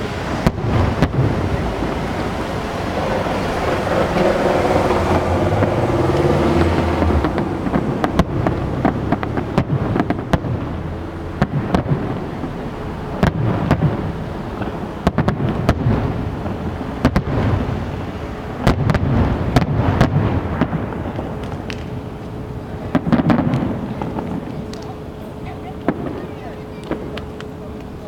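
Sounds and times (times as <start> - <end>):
low rumble: 0.0 - 25.2
fireworks bangs and crackles: 0.0 - 28.0.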